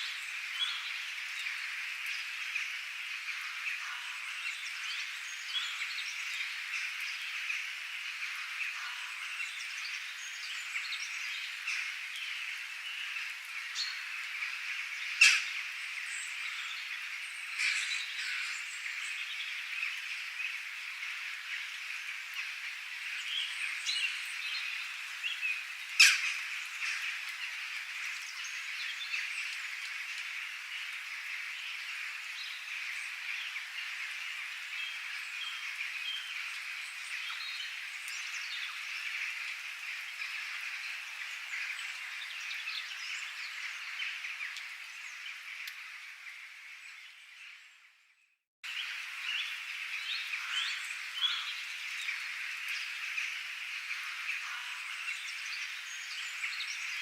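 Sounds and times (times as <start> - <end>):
frogs calling: 0.0 - 46.7, 48.8 - 57.0
birds chirping: 0.0 - 57.0.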